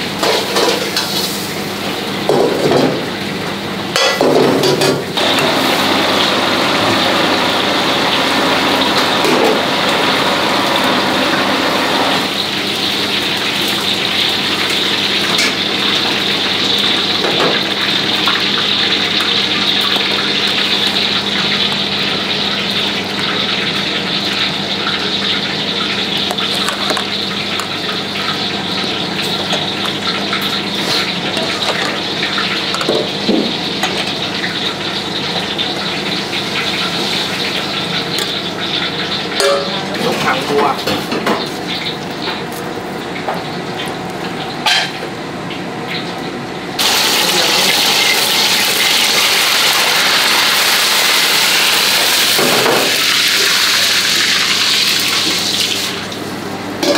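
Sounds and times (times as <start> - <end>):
gas range roaring: 0.0 - 56.9.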